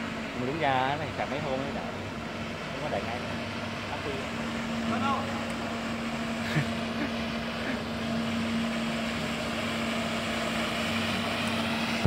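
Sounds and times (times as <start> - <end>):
floor scrubber running: 0.0 - 12.0.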